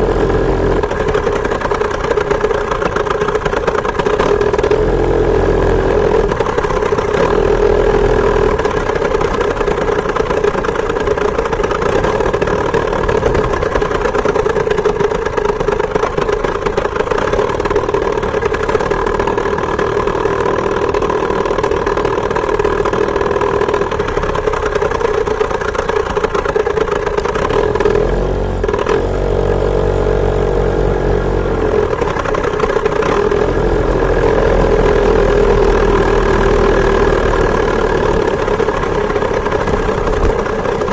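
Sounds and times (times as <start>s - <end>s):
two-stroke engine running at high revs: 0.0s - 40.9s.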